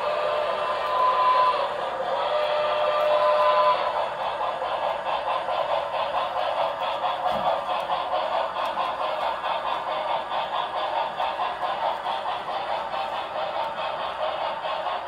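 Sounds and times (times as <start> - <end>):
model train rolling rattle: 0.0 - 15.0.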